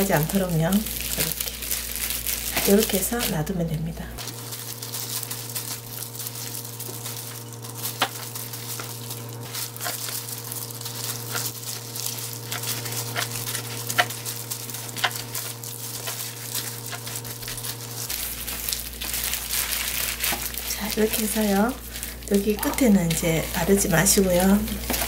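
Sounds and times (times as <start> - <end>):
plastic gloves crackling: 0.0 - 25.0
steady low hum: 0.0 - 25.0.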